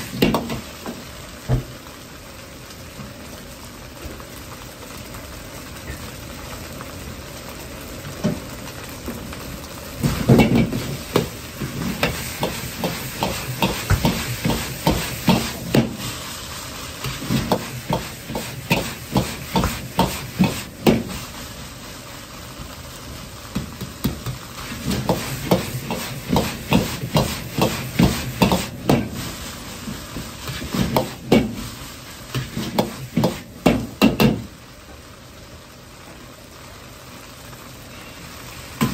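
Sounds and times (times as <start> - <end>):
gas burner hissing: 0.0 - 4.4, 5.2 - 38.9
rice sizzling: 0.0 - 38.9.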